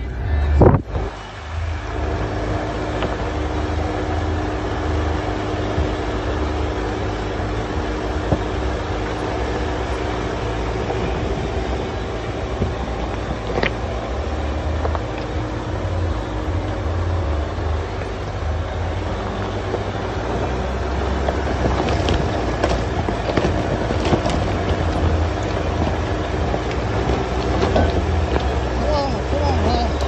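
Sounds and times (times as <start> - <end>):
engine rumble: 0.0 - 30.0
tyres crunching over stones: 0.9 - 30.0.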